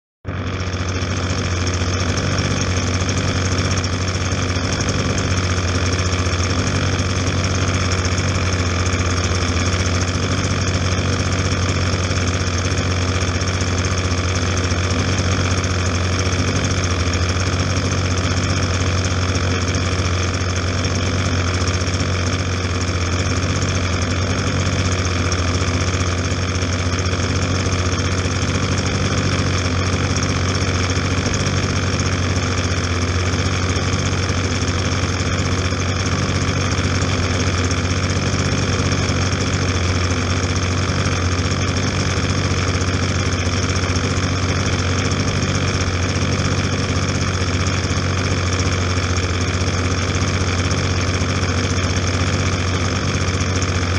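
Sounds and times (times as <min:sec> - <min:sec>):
engine running steadily: 0:00.2 - 0:53.9.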